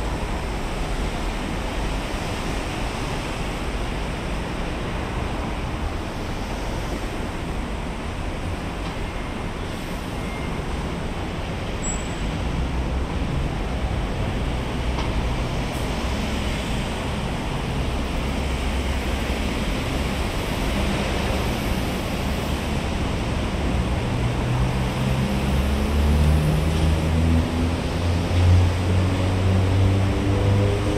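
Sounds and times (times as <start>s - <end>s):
passing cars and buses: 0.0s - 30.9s.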